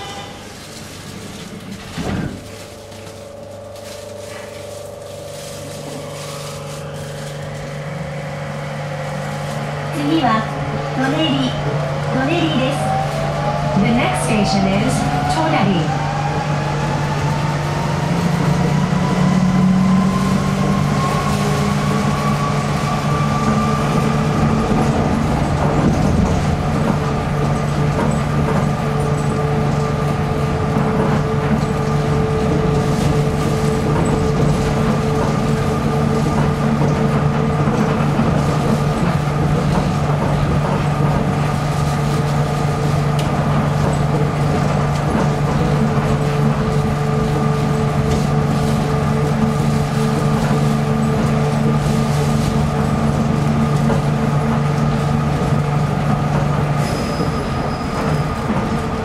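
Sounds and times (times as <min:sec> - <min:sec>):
train hum and tyre rumble: 0:00.0 - 0:59.0.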